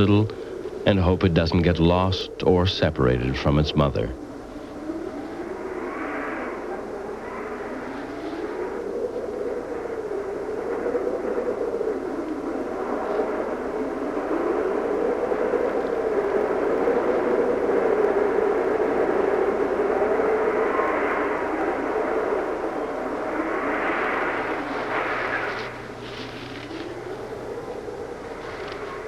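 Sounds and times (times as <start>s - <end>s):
blizzard wind howling: 0.0s - 29.0s.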